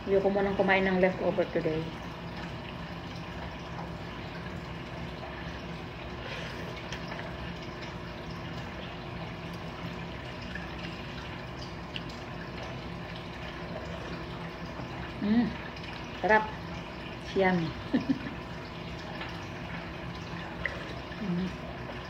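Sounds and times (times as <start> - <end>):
room noise hiss and hum: 0.0 - 22.0.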